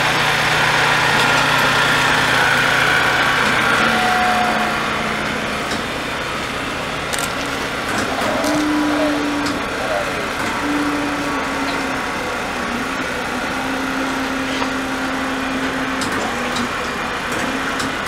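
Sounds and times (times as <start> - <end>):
truck engine low hum: 0.0 - 18.0.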